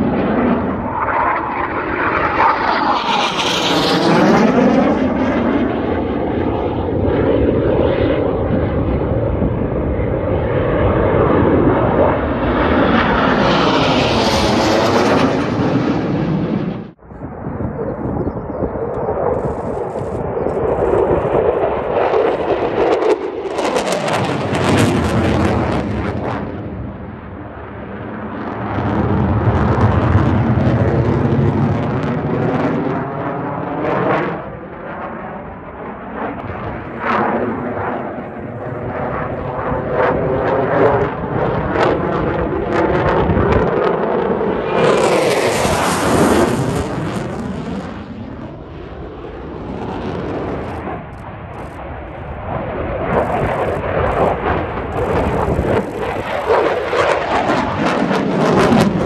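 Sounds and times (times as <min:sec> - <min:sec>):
fighter jets flying past: 0:00.0 - 0:59.0.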